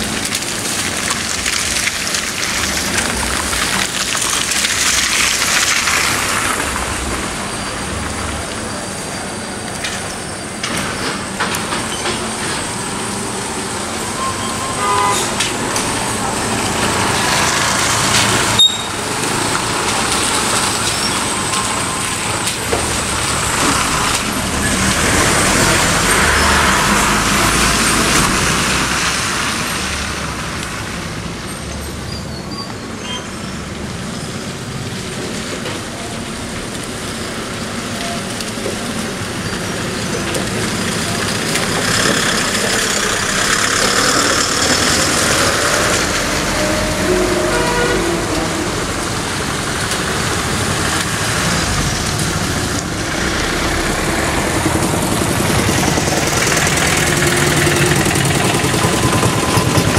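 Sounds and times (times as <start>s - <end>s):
tyres hissing through water: 0.0s - 59.9s
vehicle engines passing: 0.0s - 59.9s.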